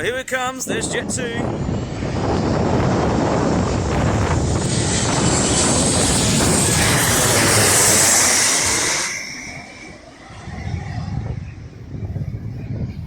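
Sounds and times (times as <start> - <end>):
jet airliner passing: 0.0 - 13.0.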